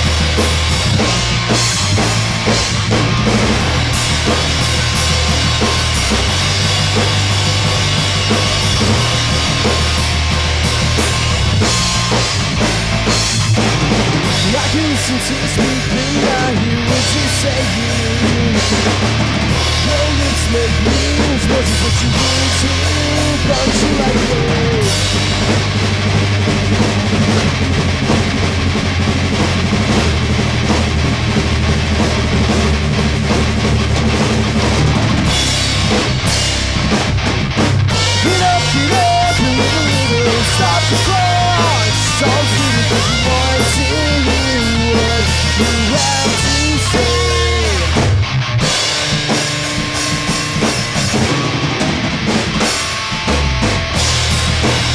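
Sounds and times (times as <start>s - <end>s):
drum kit: 0.0s - 54.9s
guitar: 0.0s - 54.9s
loud rock music: 0.0s - 54.9s.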